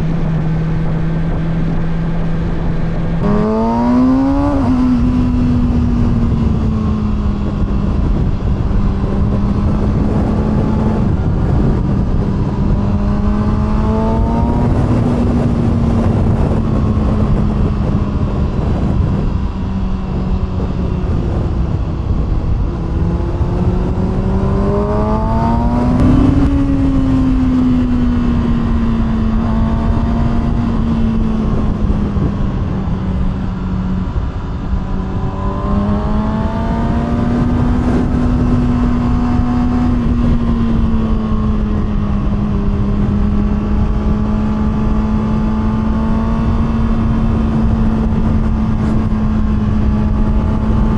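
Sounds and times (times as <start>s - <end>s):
motorcycle engine cruising: 0.0s - 50.9s
wind noise: 0.0s - 50.9s.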